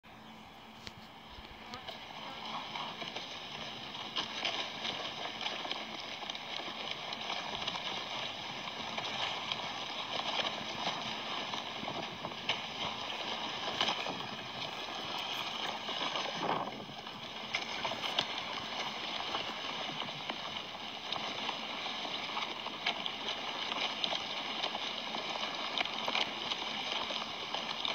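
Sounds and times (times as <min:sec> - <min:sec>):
vultures scuffling: 0:00.4 - 0:23.9.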